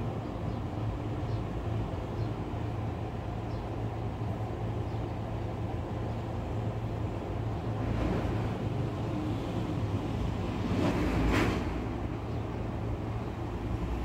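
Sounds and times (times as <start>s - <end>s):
constant background noise: 0.0s - 14.0s.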